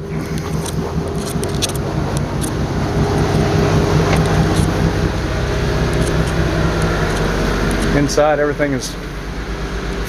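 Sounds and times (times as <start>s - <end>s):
diesel engines idling: 0.0s - 10.0s.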